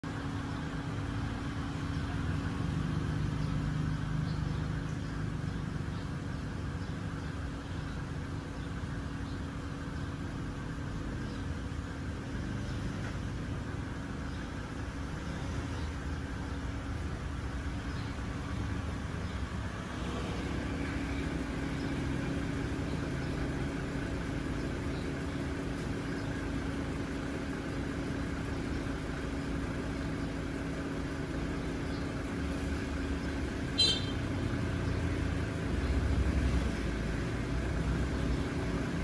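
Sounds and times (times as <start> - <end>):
constant low hum: 0.0 - 39.0.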